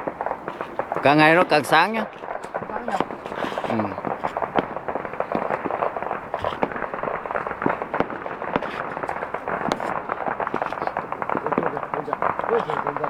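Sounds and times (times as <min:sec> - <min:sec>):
firecrackers crackling: 0:00.0 - 0:13.0
loud fireworks cracks: 0:00.0 - 0:13.0.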